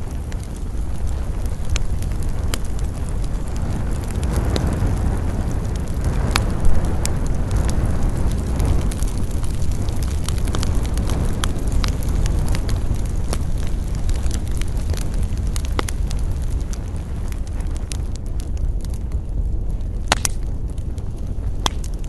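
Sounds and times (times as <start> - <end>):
campfire crackling and popping: 0.0 - 22.0
low rumble of fire: 0.0 - 22.0.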